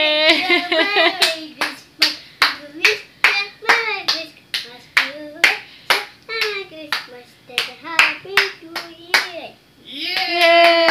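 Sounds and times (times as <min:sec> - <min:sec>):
child singing: 0:00.0 - 0:10.9
rhythmic hand clapping: 0:00.8 - 0:09.5, 0:10.1 - 0:10.9.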